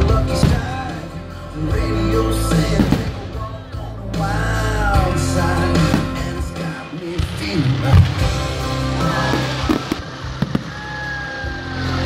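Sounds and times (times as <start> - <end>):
person singing: 0.0 - 10.0
drums: 0.0 - 12.0
rock music: 0.0 - 12.0.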